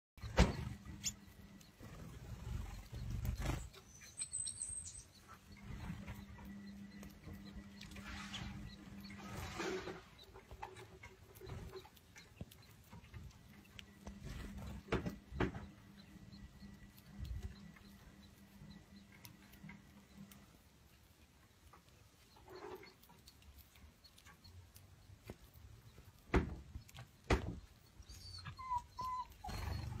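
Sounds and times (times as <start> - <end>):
small bird peep: 0.2 - 20.6, 21.5 - 30.0
beaks tapping at seed: 0.2 - 30.0.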